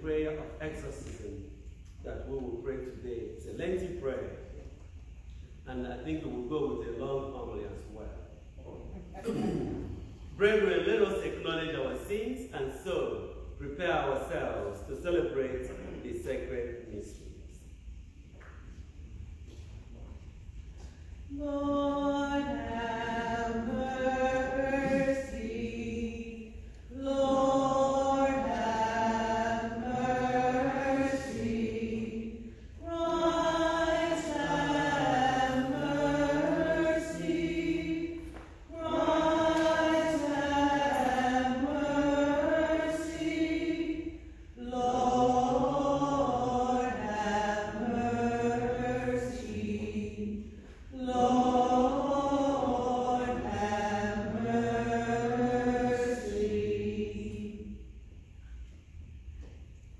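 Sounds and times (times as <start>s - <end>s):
voices singing liturgical chant: 0.0s - 4.5s, 9.2s - 17.3s, 21.3s - 58.1s.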